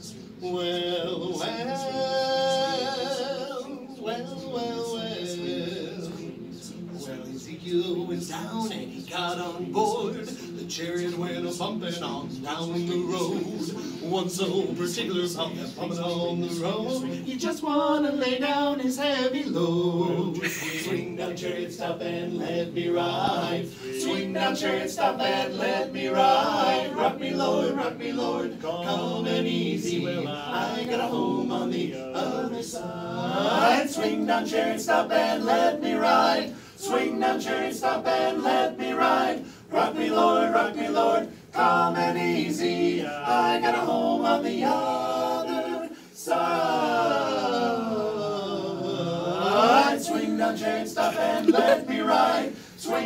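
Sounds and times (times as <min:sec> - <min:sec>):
male quartet singing a cappella: 0:00.0 - 0:53.0.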